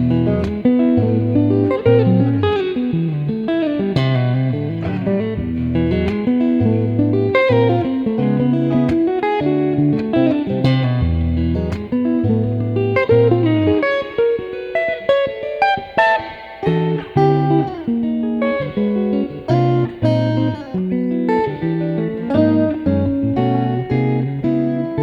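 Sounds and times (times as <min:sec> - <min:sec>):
clean electric guitar: 0:00.0 - 0:25.0.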